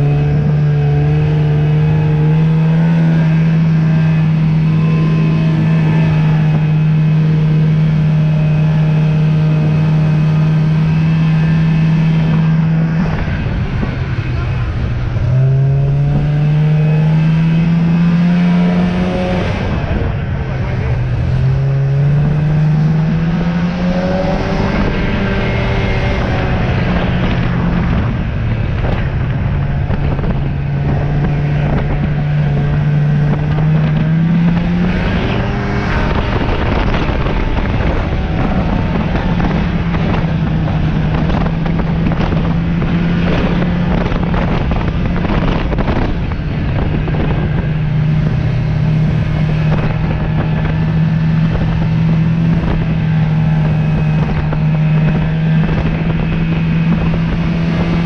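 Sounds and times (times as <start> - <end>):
snowmobile engine running: 0.0 - 58.0
wind on microphone: 0.0 - 58.0.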